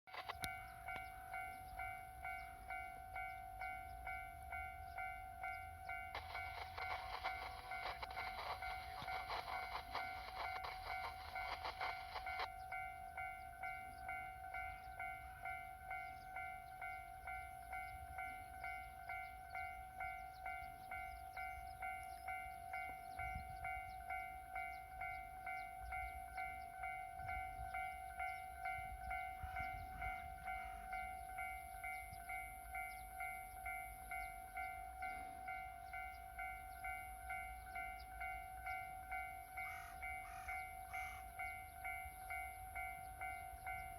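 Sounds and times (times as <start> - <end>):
level-crossing alarm ringing: 0.1 - 43.9
train rattling past: 0.1 - 43.9.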